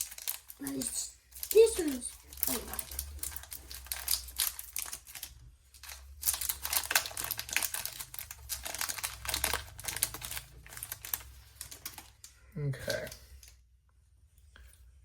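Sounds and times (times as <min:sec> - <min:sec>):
foil wrapper crinkling: 0:00.0 - 0:12.3.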